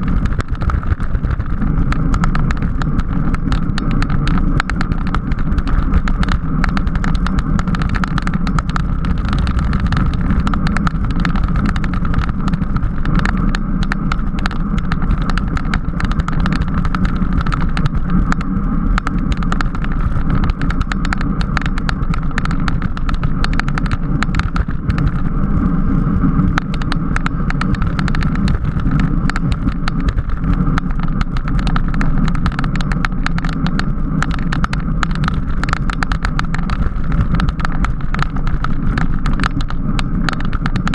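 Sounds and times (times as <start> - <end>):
road rumble: 0.0 - 40.9
wind rushing over microphone: 0.0 - 40.9.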